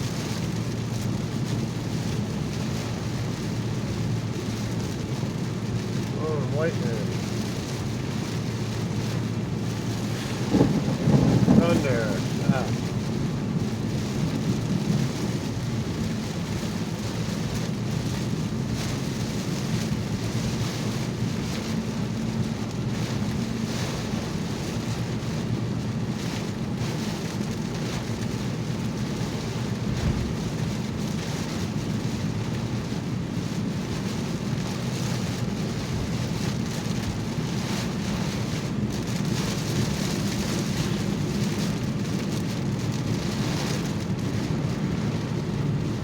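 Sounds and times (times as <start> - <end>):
rain on car: 0.0 - 46.0
road and engine rumble: 0.0 - 46.0.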